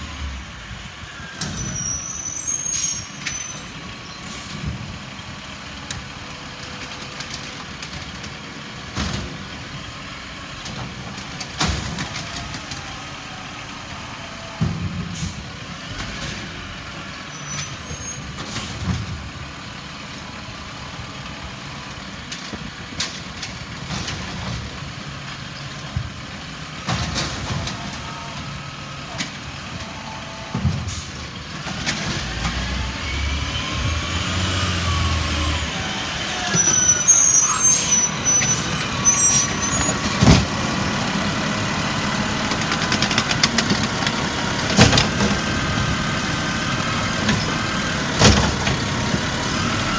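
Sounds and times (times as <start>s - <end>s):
truck engine running: 3.5s - 49.9s.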